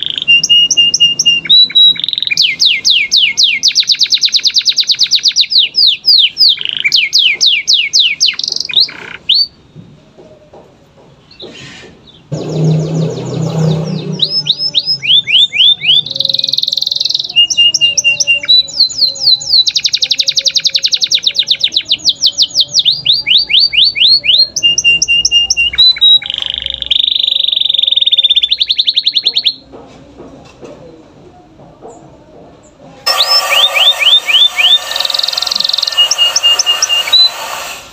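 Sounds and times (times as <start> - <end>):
canary singing trills: 0.0 - 9.7, 11.3 - 29.7, 33.0 - 37.6.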